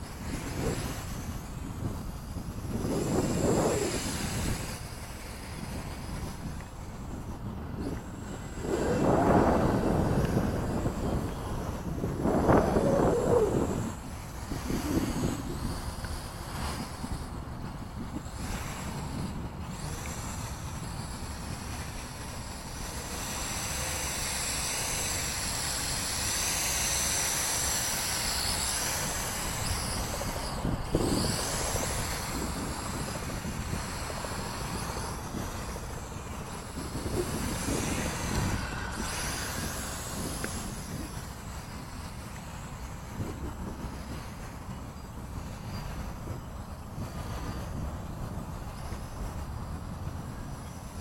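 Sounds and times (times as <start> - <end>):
toy drone propellers whining: 0.0 - 51.0
wind buffeting microphone: 0.0 - 51.0.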